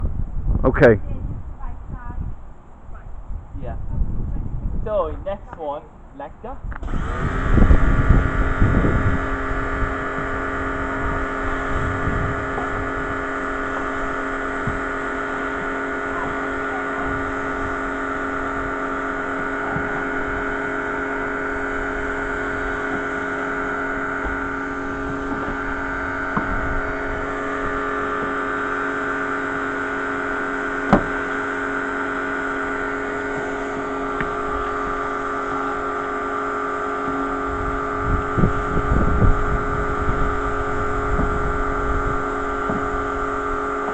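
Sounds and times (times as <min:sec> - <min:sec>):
pressure washer spraying: 0:06.8 - 0:43.9.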